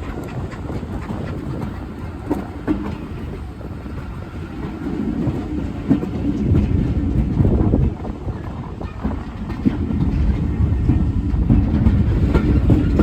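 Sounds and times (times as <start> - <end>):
train rumbling: 0.0 - 13.0
wheels clacking over rail joints: 0.0 - 13.0.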